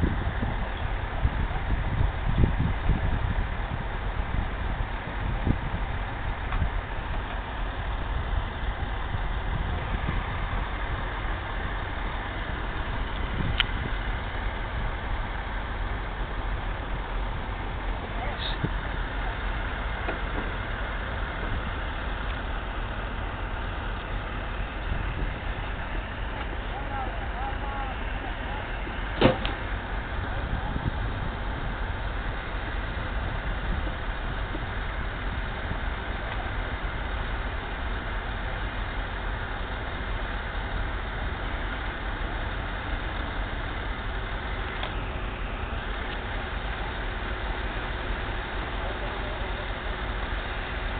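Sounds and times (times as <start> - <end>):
heavy engine drone: 0.0 - 50.9
mechanical rumble: 0.0 - 50.9.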